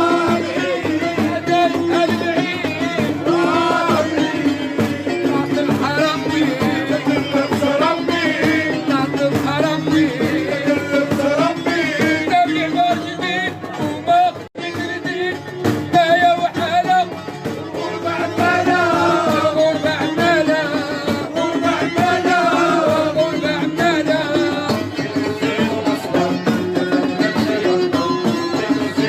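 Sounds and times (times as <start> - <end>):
drums and instruments: 0.0 - 29.0.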